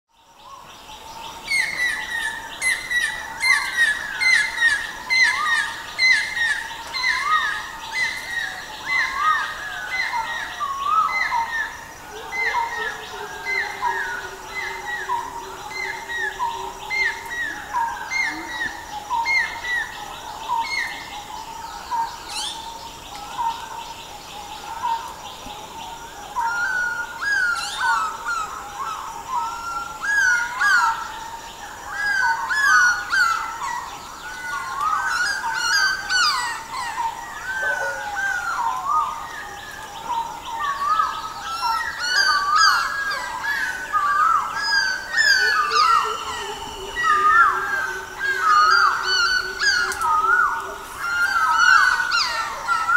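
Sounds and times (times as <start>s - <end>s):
birds chirping and singing: 0.2s - 52.9s.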